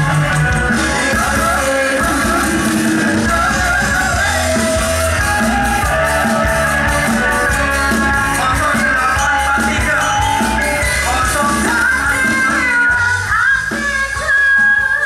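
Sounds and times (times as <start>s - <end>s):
bass guitar: 0.0s - 15.0s
person singing: 0.0s - 15.0s.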